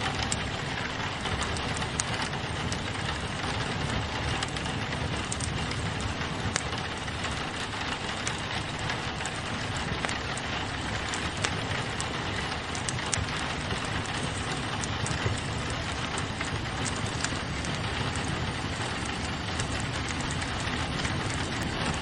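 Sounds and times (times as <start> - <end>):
rain on a window: 0.0 - 22.0
wood fire crackling: 0.0 - 22.0.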